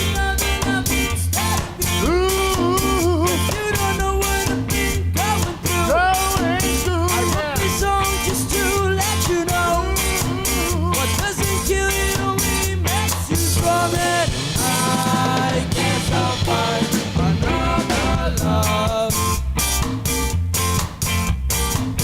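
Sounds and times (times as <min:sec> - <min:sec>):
ska band playing: 0:00.0 - 0:22.0.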